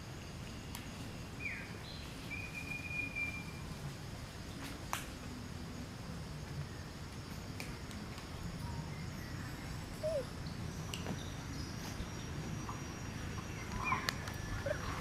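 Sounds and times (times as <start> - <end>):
faint high whine: 0.0 - 15.0
steady background hiss: 0.0 - 15.0.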